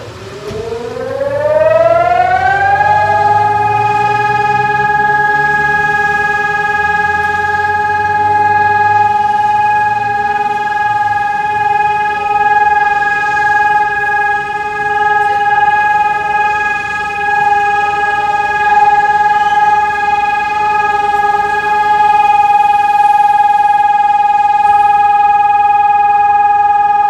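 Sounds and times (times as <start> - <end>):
steady warning siren: 0.0 - 27.0.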